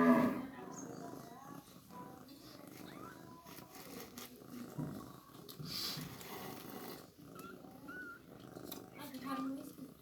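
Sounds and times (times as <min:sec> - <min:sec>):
cat purring: 0:00.4 - 0:10.0.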